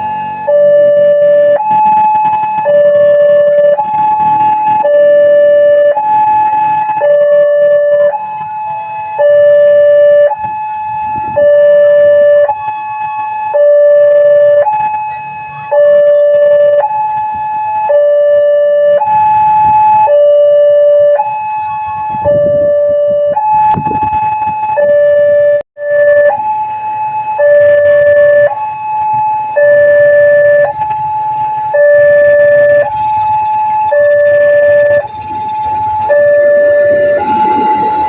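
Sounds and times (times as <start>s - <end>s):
two-tone electronic warning alarm: 0.0s - 38.0s.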